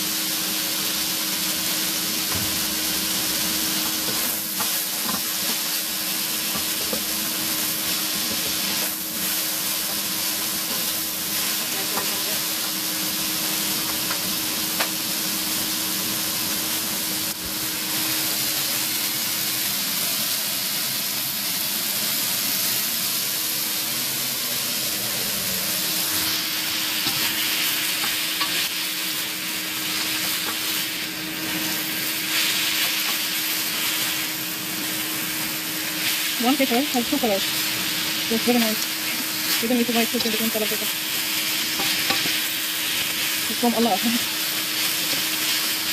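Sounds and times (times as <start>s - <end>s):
food sizzling in a pan: 0.0s - 45.9s.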